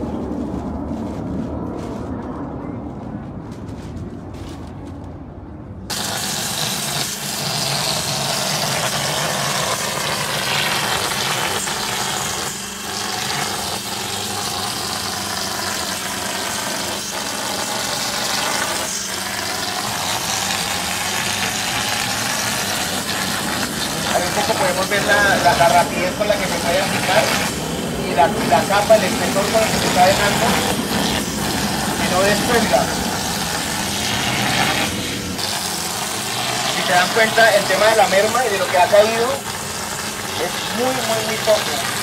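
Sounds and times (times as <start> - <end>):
machine humming: 5.2 - 42.0.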